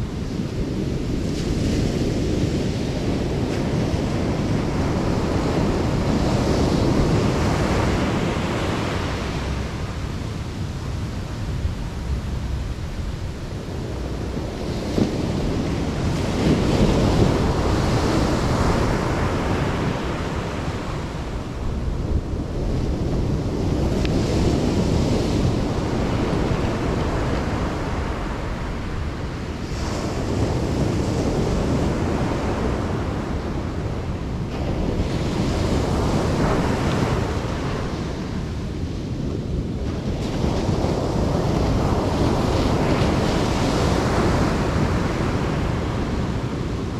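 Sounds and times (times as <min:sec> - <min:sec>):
ocean waves breaking on beach: 0:00.0 - 0:46.9
wind rumbling on microphone: 0:00.0 - 0:46.9.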